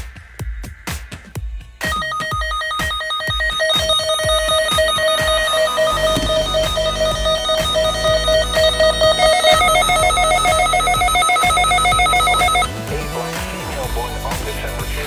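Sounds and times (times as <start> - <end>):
electronic music with pulsing synth: 0.0 - 15.0.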